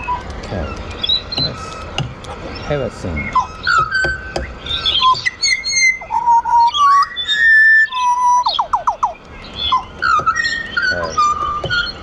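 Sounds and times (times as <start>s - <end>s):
birds singing whistled notes: 0.0s - 12.0s.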